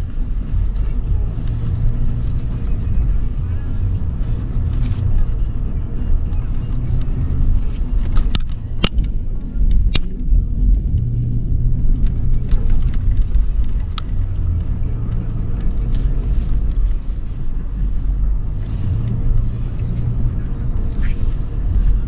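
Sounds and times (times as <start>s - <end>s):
engine rumbling under load: 0.0s - 22.0s.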